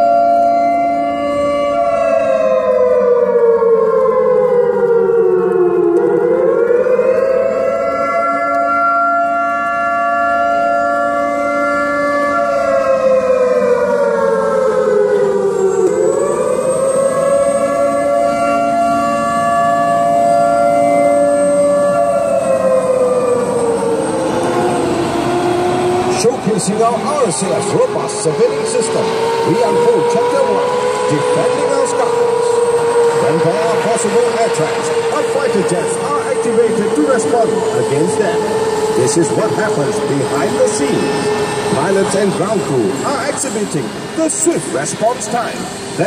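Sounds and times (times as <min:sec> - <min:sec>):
warning siren wailing: 0:00.0 - 0:46.0.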